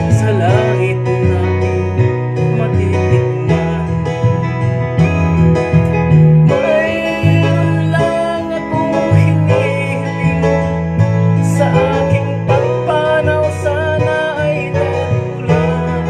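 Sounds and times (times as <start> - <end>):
man singing: 0.0 - 5.4, 6.0 - 16.0
guitar accompaniment: 0.0 - 16.0
steady bass line: 0.0 - 16.0.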